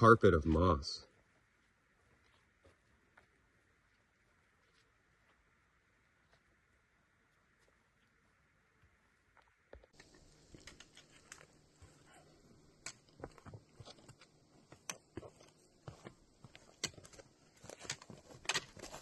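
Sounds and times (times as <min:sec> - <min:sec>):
footsteps on forest trail: 0:00.0 - 0:19.0.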